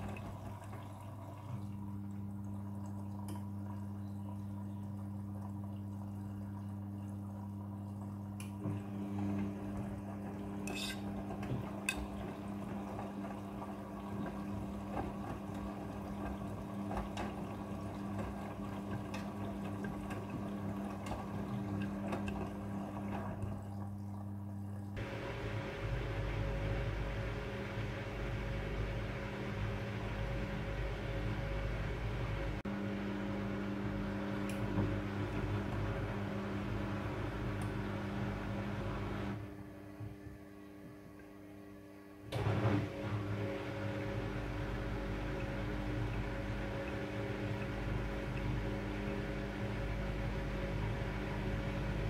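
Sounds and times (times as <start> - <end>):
electrical hum: 0.0 - 52.0
washing machine rumble and whine: 0.0 - 52.0.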